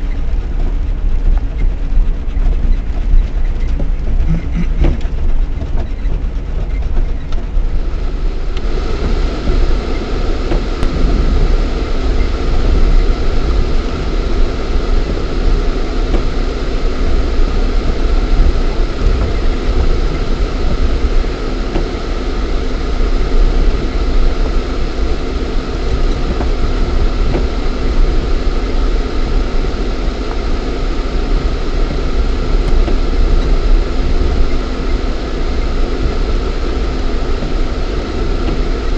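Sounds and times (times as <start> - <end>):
engine and tyres rumbling in cabin: 0.0 - 38.9.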